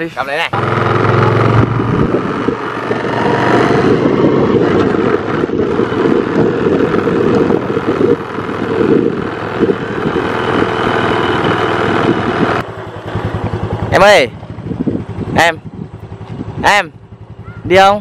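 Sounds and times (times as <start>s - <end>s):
motorbike engine running: 0.5s - 18.0s
wind noise on microphone: 0.6s - 18.0s.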